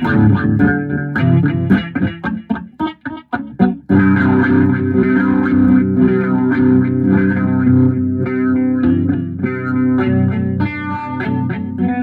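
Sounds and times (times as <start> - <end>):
effects-laden guitar: 0.0 - 12.0.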